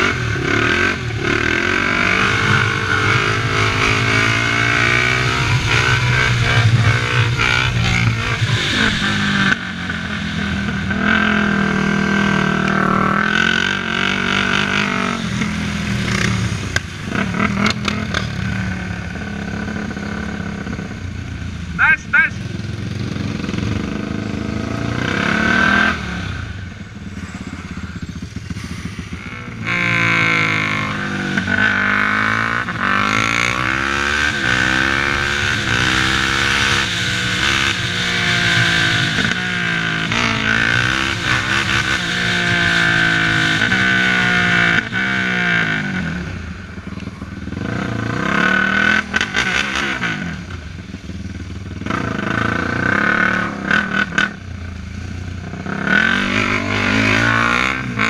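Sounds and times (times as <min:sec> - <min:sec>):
quad engine accelerating: 0:00.0 - 0:58.0.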